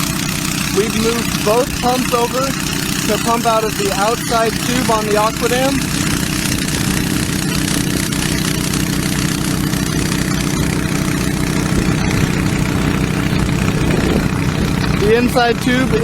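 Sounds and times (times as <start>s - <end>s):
water pump engine running: 0.0s - 16.0s.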